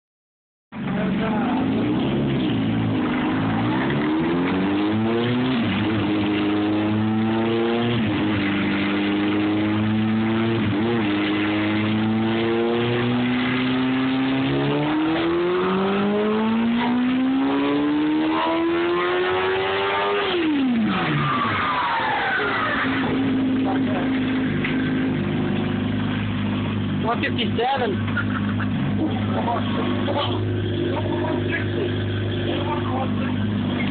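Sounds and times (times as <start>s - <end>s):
motorcycle engine revving: 0.8s - 33.9s.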